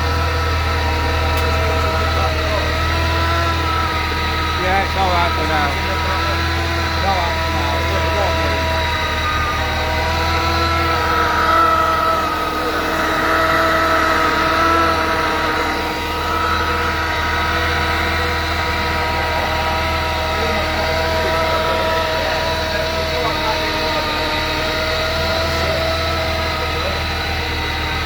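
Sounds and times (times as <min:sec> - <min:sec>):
car engine idling: 0:00.0 - 0:28.0
supercharger whine: 0:00.0 - 0:28.0.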